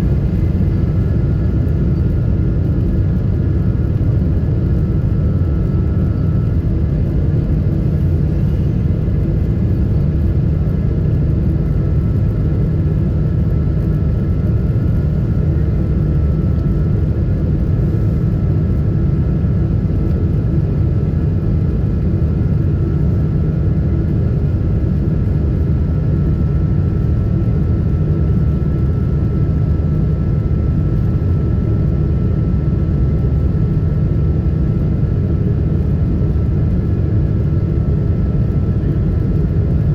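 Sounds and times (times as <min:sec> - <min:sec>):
aircraft cabin rumble: 0:00.0 - 0:39.9
faint steady whine: 0:00.0 - 0:39.9.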